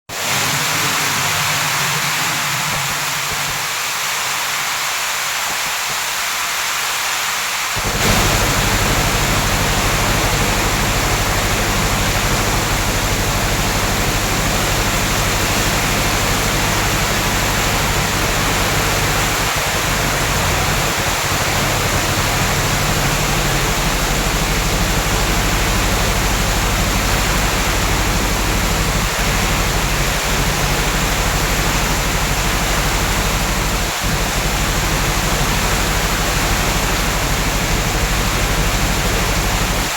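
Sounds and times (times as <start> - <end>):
heavy rain falling: 0.1 - 39.9
low steady rumble: 7.8 - 39.9.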